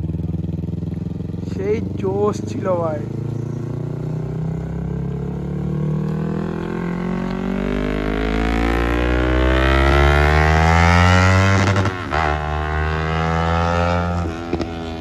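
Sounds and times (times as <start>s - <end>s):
motorcycle engine rising in pitch: 0.0s - 15.0s.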